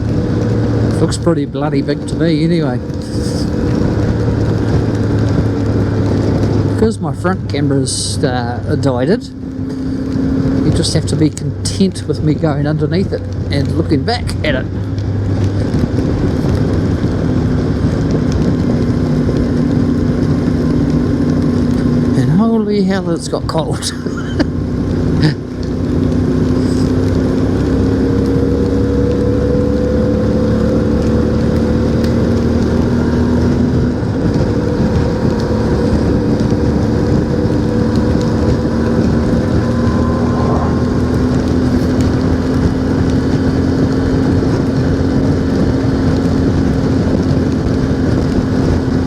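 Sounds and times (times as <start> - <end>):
motorcycle engine cruising: 0.0 - 49.0
wind and road noise: 0.0 - 49.0.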